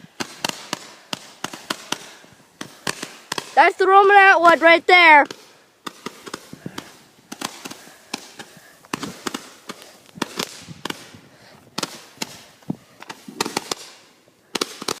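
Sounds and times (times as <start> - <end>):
fireworks hiss: 0.0 - 15.0
small fireworks popping: 0.0 - 15.0.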